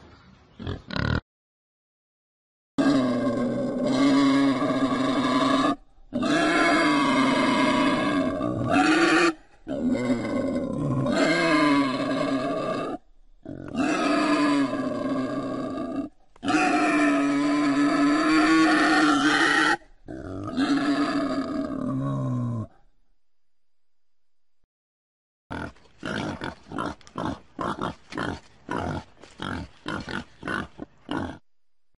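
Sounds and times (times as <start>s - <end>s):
wild boar grunting calls: 2.8s - 22.8s, 25.5s - 31.4s.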